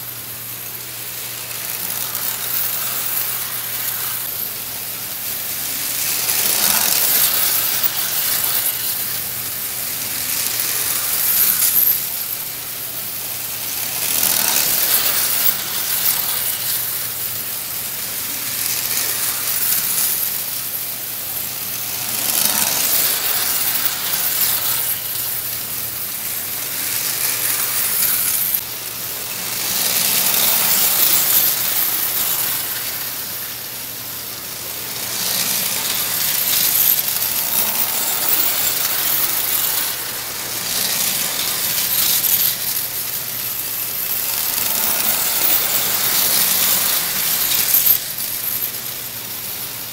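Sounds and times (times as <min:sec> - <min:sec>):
toy trains clattering on metal track: 0:00.0 - 0:49.9.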